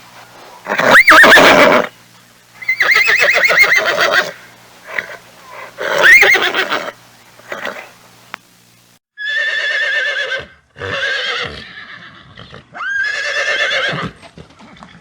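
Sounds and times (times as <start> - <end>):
horse whinnying: 0.7 - 1.9, 2.6 - 7.9, 9.2 - 15.0.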